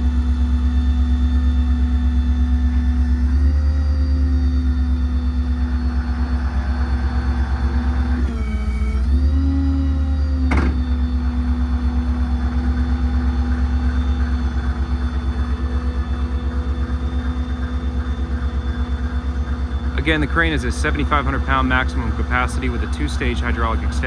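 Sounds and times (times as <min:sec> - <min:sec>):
truck engine pulsing rumble: 0:00.0 - 0:24.0.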